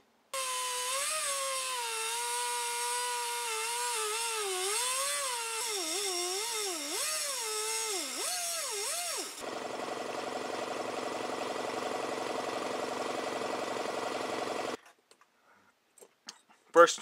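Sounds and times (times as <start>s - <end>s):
cut-off wheel grinding steel: 0.4s - 14.8s.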